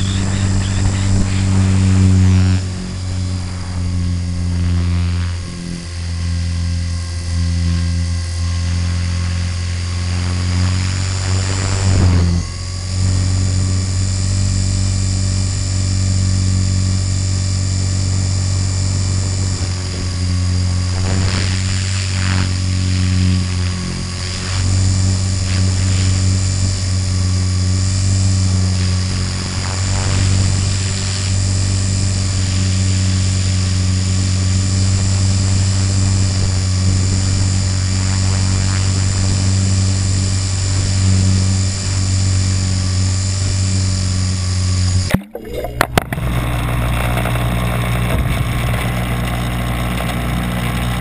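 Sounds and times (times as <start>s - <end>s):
helicopter rotor drone: 0.0s - 45.1s, 45.8s - 51.0s
high motor whine: 0.0s - 51.0s.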